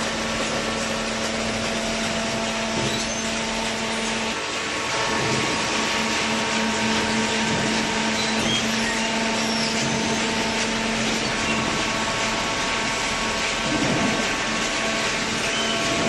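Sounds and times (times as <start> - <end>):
baler machine hum: 0.0 - 16.0.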